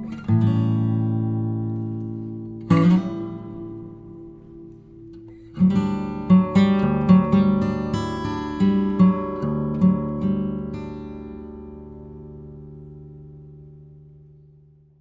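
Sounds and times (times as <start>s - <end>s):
acoustic guitar strumming: 0.0s - 14.7s.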